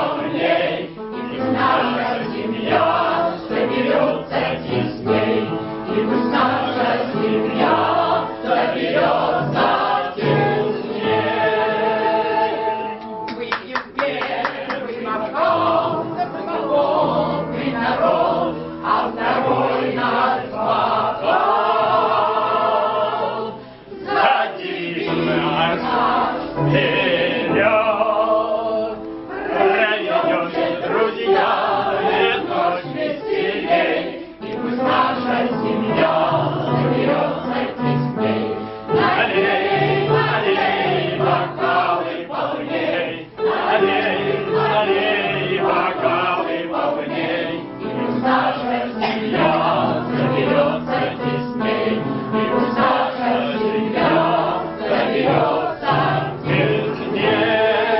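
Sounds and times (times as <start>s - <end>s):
group singing in chorus: 0.0s - 57.9s.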